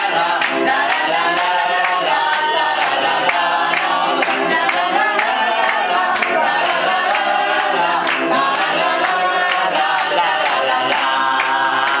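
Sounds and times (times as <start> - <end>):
group of voices singing: 0.0 - 12.0
sharp rhythmic clicks: 0.0 - 12.0.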